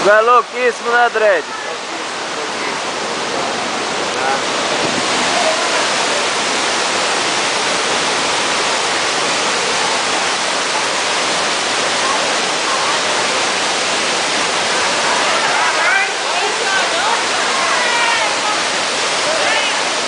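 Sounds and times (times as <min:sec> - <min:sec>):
waterfall pouring into pool: 0:00.0 - 0:20.0.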